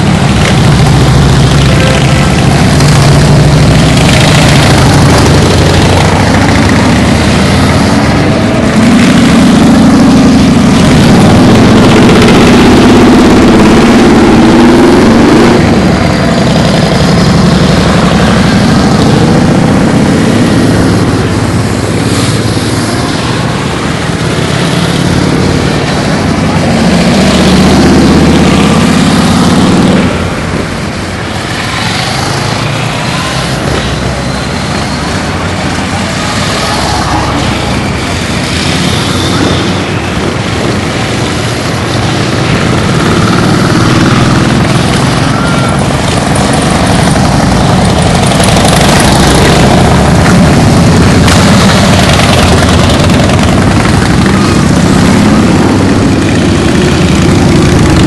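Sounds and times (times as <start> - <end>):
motorcycles riding past: 0.0 - 58.0.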